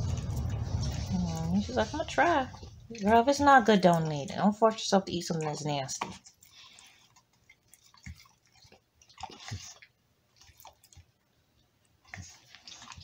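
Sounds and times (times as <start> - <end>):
dog chewing and mouth smacks: 2.5 - 13.0.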